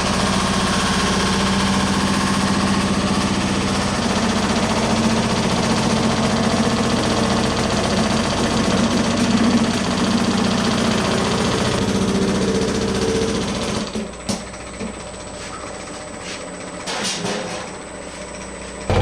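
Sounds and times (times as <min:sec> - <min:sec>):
low motor hum: 0:00.0 - 0:16.8, 0:17.8 - 0:19.0.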